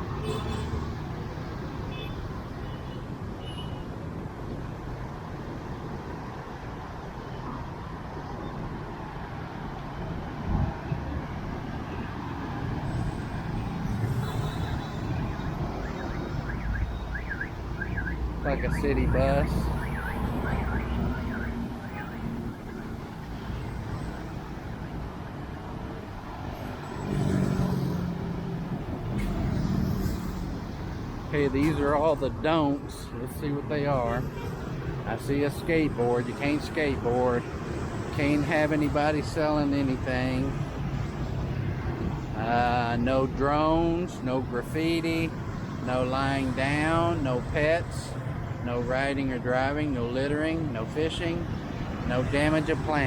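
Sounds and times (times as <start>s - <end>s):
city street traffic: 0.0s - 53.0s.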